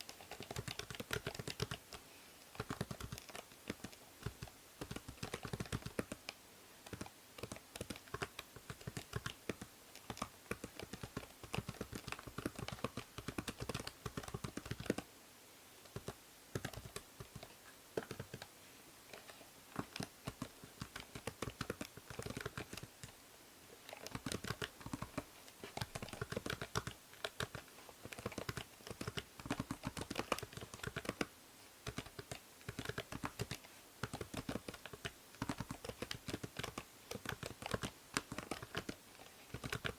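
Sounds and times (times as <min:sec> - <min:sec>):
keyboard typing clicks: 0:00.0 - 0:02.0, 0:02.6 - 0:15.0, 0:15.9 - 0:18.5, 0:19.1 - 0:23.2, 0:23.9 - 0:39.9
steady background hiss: 0:00.0 - 0:39.9.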